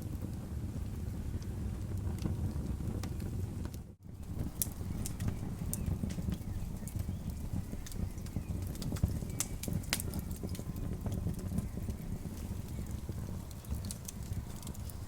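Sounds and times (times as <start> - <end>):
campfire crackling: 0.0 - 15.0
sharp pops from fire: 0.0 - 15.0.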